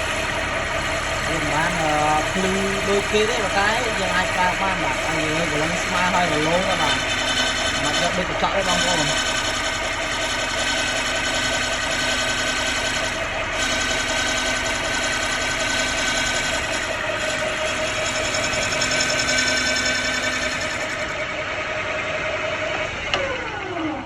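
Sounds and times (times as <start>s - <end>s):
lathe humming and whining: 0.0s - 24.0s.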